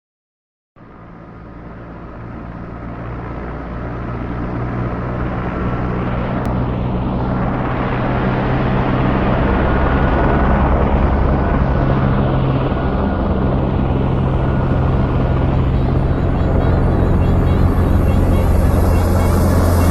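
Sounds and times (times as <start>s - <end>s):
low mechanical drone: 0.8s - 19.9s.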